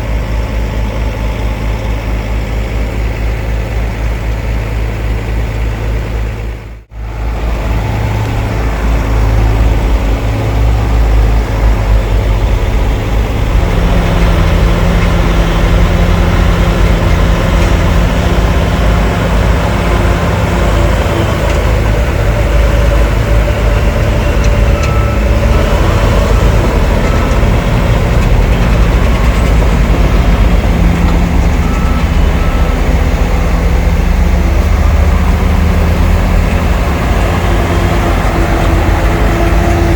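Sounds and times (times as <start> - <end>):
heavy diesel machinery engines: 0.0 - 39.9.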